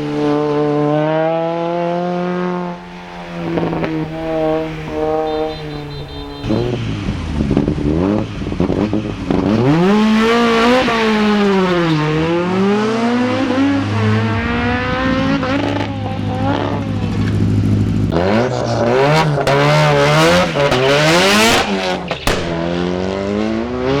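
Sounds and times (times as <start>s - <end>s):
race car engine revving: 2.2s - 24.0s.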